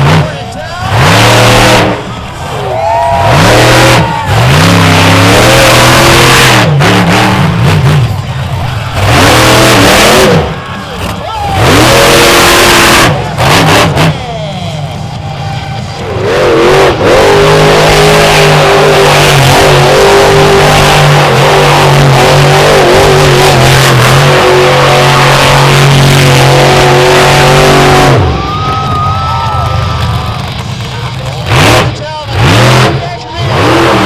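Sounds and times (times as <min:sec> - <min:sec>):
monster truck engine revving: 0:00.0 - 0:34.0.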